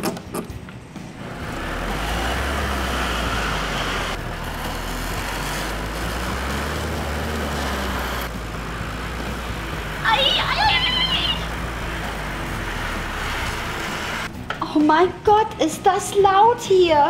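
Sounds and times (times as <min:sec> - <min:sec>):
diesel engine rumble: 0:00.6 - 0:14.6.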